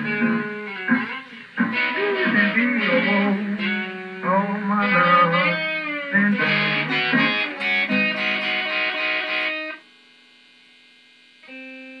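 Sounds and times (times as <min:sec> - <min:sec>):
electric guitar playing blues: 0:00.0 - 0:09.8, 0:11.4 - 0:12.0.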